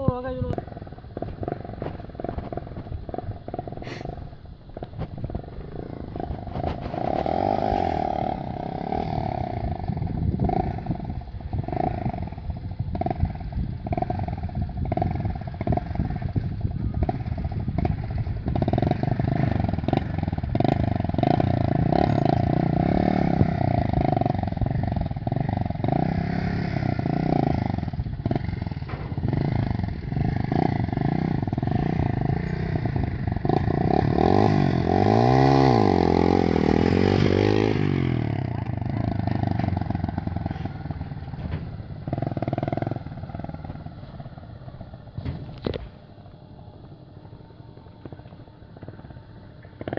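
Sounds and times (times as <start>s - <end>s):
small motorcycle engine revving: 0.0s - 49.9s.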